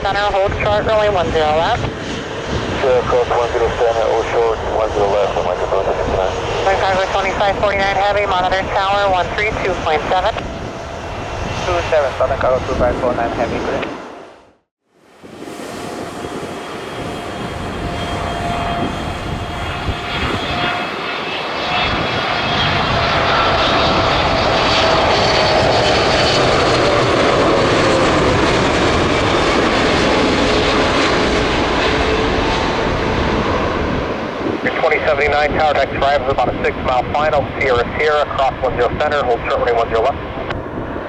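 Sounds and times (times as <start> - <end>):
jet engines on landing approach: 0.0 - 41.0.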